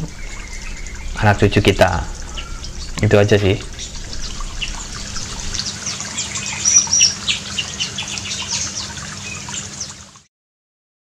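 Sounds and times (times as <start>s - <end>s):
birds chirping: 0.0s - 10.2s
trickle of running water: 0.0s - 10.3s.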